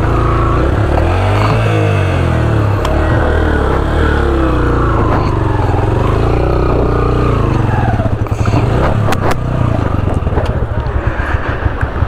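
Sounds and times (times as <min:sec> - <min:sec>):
motorcycle engine revving under load: 0:00.0 - 0:12.0.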